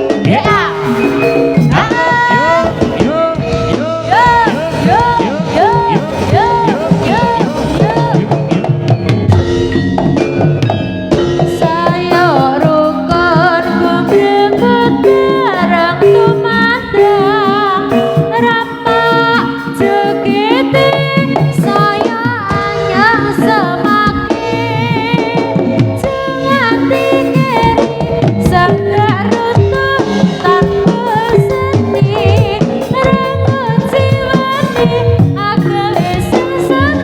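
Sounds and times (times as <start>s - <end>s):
high wavering melody: 0.0s - 36.8s
gamelan percussion: 0.0s - 37.0s
hand drums: 0.0s - 37.0s.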